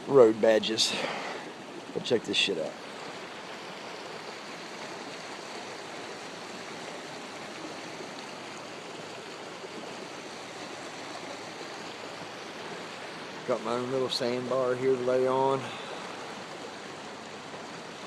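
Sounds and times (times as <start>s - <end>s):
water flowing over rocks: 0.0s - 18.0s.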